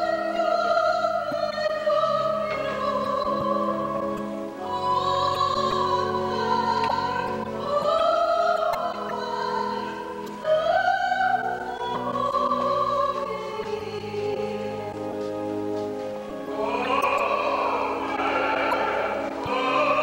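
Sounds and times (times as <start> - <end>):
operatic singing: 0.0 - 15.2, 16.2 - 20.0
sustained accompaniment: 0.0 - 20.0.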